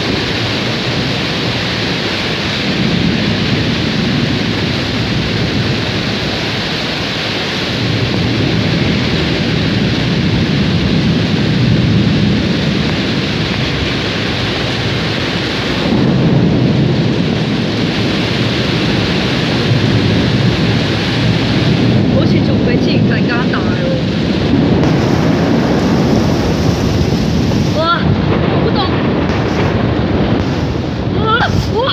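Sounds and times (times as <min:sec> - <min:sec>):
heavy rain: 0:00.0 - 0:31.9
thunder rumbling: 0:00.0 - 0:31.9.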